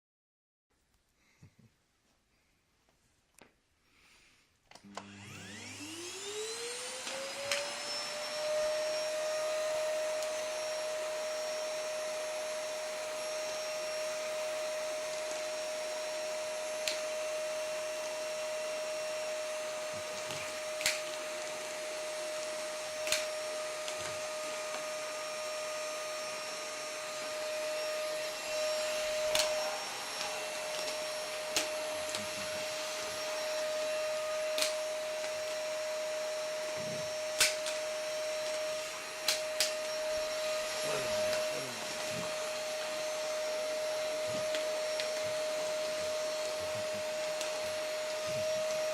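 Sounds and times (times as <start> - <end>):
vacuum cleaner motor whine: 4.7 - 48.9.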